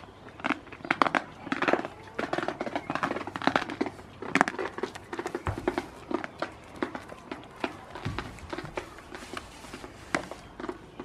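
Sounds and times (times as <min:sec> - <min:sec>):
goats moving and feeding: 0:00.0 - 0:11.0.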